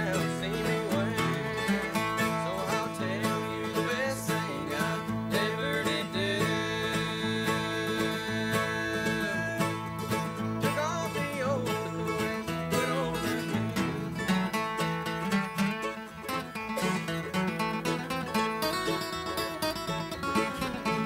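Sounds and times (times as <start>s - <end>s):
acoustic guitars: 0.0s - 21.0s
banjo picking: 0.0s - 21.0s
electric bass: 0.0s - 21.0s
mandolin: 0.0s - 21.0s
resonator guitar: 0.0s - 21.0s.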